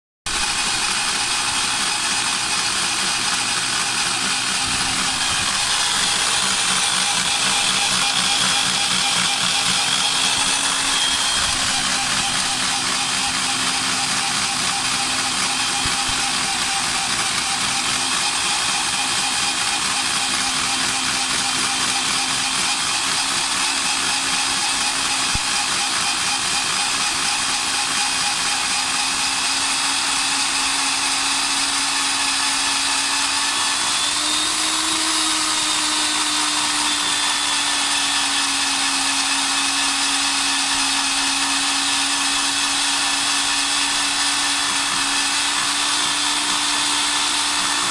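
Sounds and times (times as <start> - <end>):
core drill motor running: 0.3 - 47.9.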